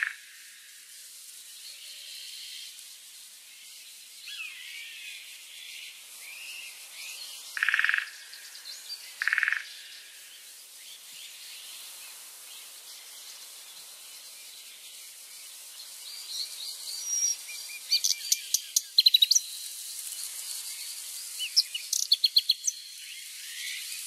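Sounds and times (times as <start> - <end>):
steady high-pitched hiss: 0.0 - 24.0
small birds chirping: 3.6 - 24.0.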